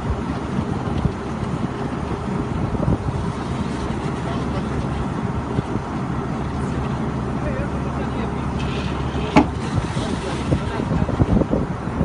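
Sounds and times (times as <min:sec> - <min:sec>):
heavy engine drone: 0:00.0 - 0:12.0.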